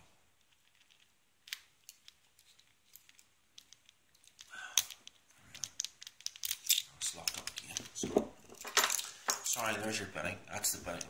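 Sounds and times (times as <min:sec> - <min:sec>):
padlock and keys clicking: 0:00.5 - 0:09.5.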